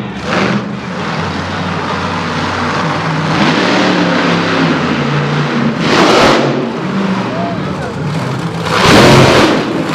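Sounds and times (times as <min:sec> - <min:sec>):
monster truck engine revving: 0:00.0 - 0:09.9.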